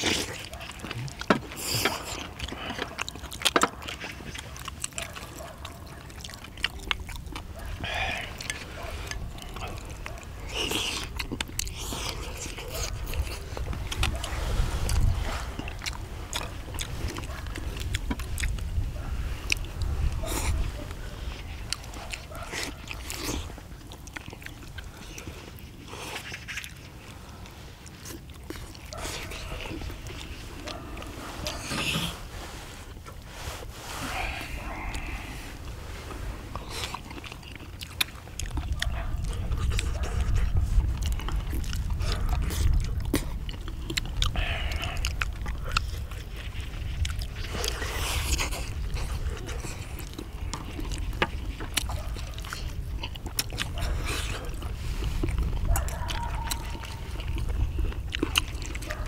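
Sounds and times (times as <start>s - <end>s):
people chewing: 0.0s - 59.0s.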